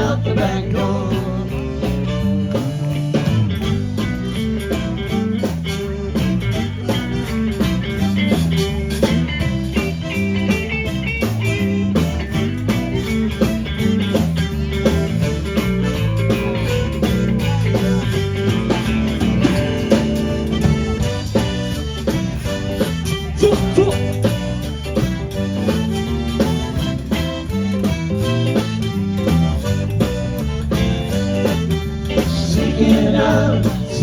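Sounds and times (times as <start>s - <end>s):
blues-rock band playing: 0.0s - 34.0s
electric guitar: 0.0s - 34.0s.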